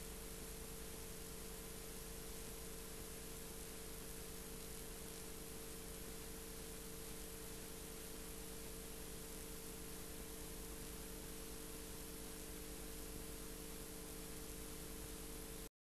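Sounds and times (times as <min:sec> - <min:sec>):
low electrical hum: 0:00.0 - 0:15.7
steady hiss: 0:00.0 - 0:15.7.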